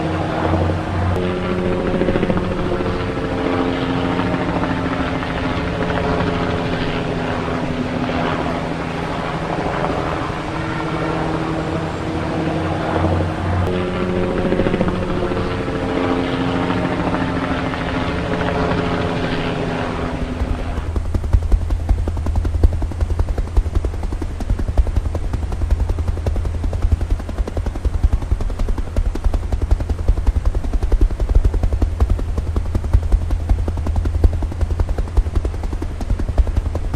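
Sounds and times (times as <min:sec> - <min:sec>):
helicopter rotor blades beating: 0:00.0 - 0:36.9
helicopter turbine whine: 0:00.0 - 0:36.9.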